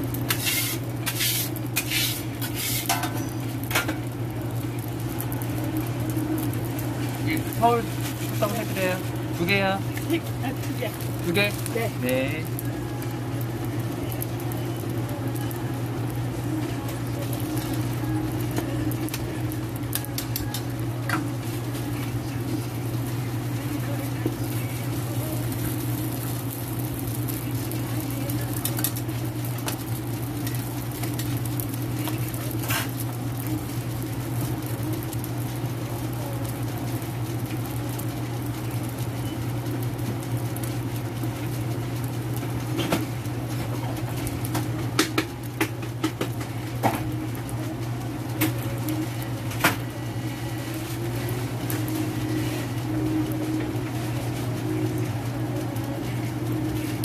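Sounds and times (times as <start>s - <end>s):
food sizzling on a griddle: 0.0s - 57.0s
low steady hum: 0.0s - 57.0s.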